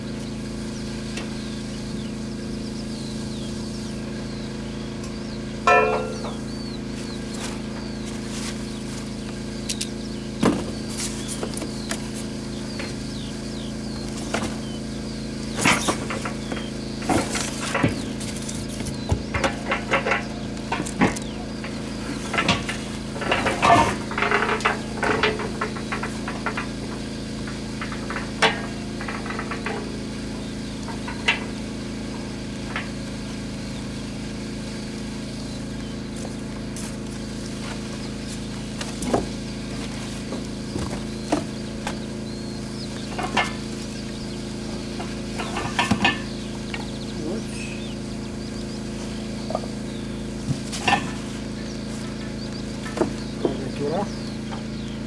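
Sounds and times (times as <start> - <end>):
steady background hum: 0.0 - 55.0
parts clicking and rattling: 5.0 - 33.5, 36.7 - 54.8.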